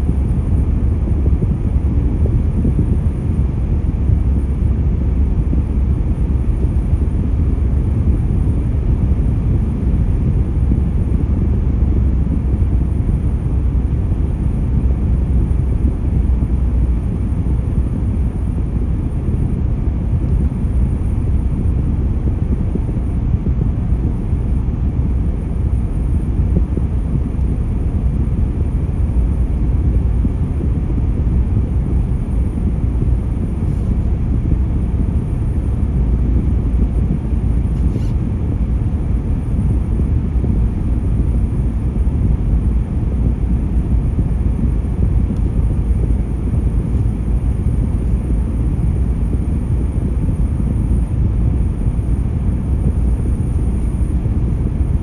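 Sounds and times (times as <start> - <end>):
car tyre and engine rumble: 0.0 - 55.0.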